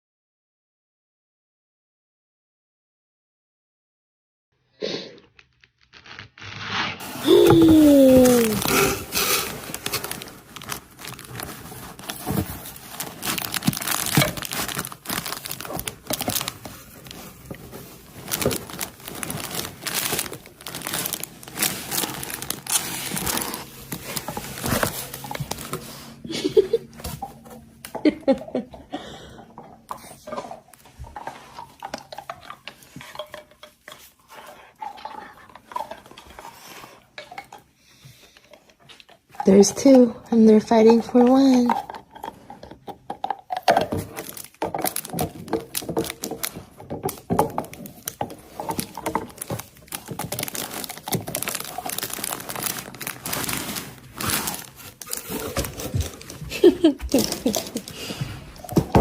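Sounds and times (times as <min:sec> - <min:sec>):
crinkling and rustling: 0:05.2 - 0:28.8, 0:29.5 - 0:59.0.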